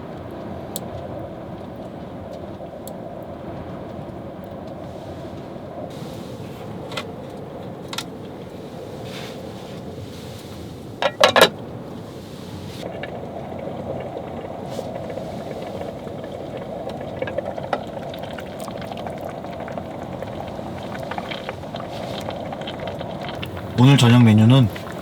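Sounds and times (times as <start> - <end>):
stew simmering in pot: 0.0 - 25.0.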